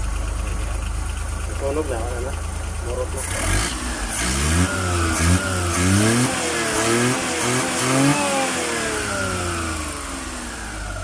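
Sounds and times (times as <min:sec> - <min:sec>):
three-cylinder engine revving: 0:01.4 - 0:11.0.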